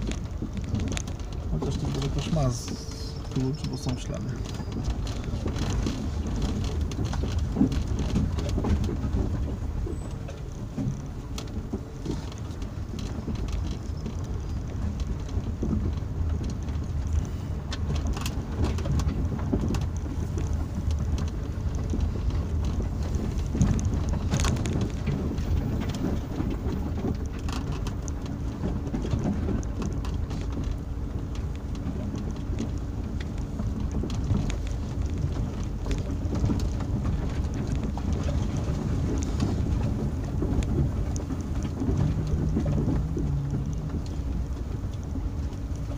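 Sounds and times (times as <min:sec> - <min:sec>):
clicks and knocks from car body: 0:00.0 - 0:45.9
engine and tyre rumble: 0:00.0 - 0:45.9.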